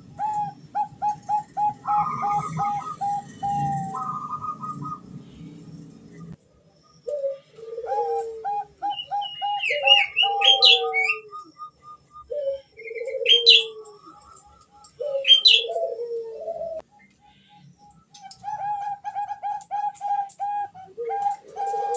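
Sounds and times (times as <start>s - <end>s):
dove cooing: 0.0s - 5.6s, 6.9s - 16.9s, 18.1s - 21.9s.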